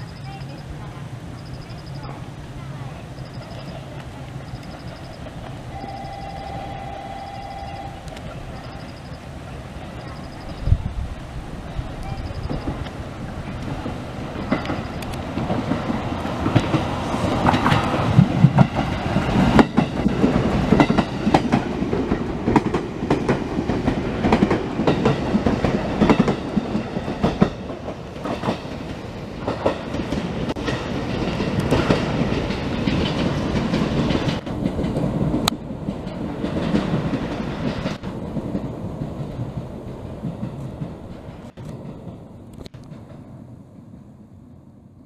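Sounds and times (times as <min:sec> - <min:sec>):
train rushing past: 0:00.0 - 0:45.0
wheels clattering over rail joints: 0:07.7 - 0:43.9.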